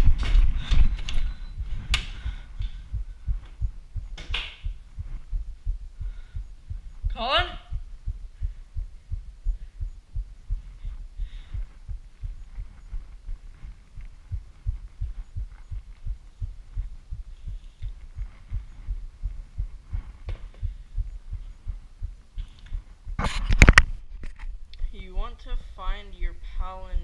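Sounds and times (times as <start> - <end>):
faint rustling: 0.0 - 25.3
heartbeat thumps: 0.0 - 27.0.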